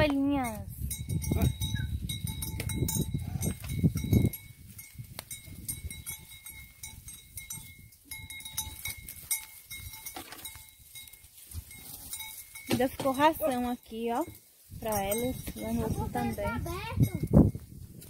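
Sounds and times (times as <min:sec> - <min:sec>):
faint steady ringing: 0:00.3 - 0:17.7
sheep moving past: 0:02.2 - 0:18.0.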